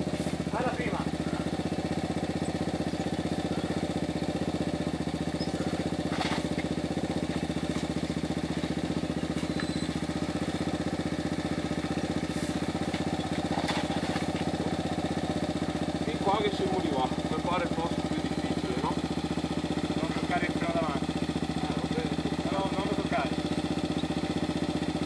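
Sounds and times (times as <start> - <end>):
dirt bike engine idling: 0.0 - 25.0.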